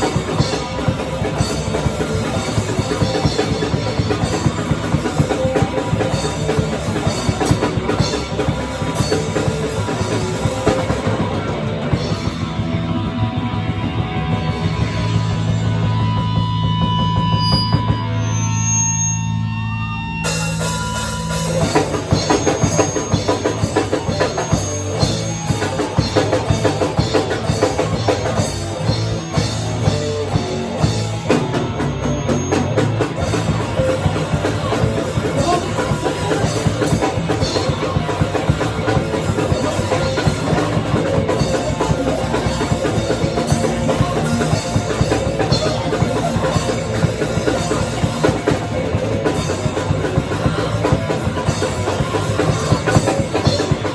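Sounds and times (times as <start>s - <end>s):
fast busy drumming: 0.0s - 18.4s, 20.2s - 53.9s
live rock band playing: 0.0s - 53.9s.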